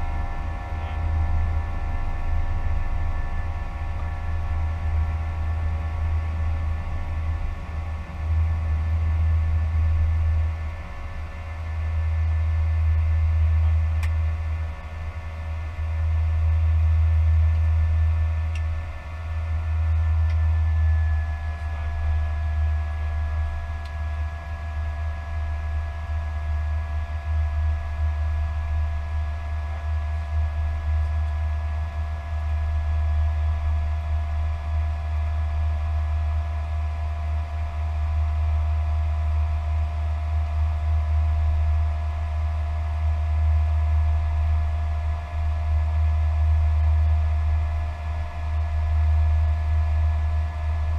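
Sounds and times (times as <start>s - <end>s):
jet engine rumble and whine: 0.0s - 50.9s.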